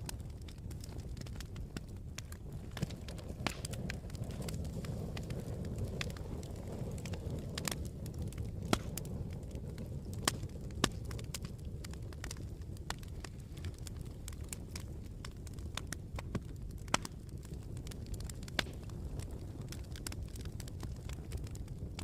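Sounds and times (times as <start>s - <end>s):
campfire rumbling: 0.0s - 22.0s
wood crackling and popping: 0.0s - 22.0s.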